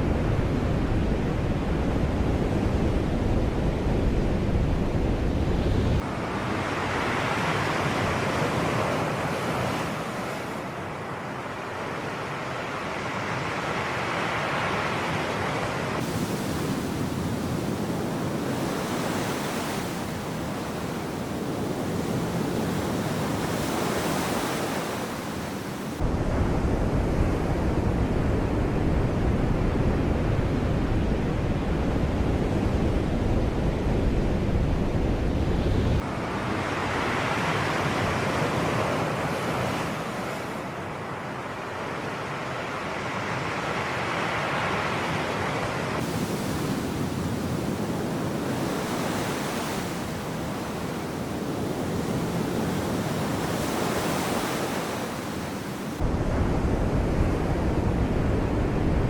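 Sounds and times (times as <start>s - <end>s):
wind rumble on microphone: 0.0s - 10.7s, 14.6s - 40.7s, 44.6s - 59.0s
sea waves washing in: 3.0s - 28.8s, 29.4s - 59.0s.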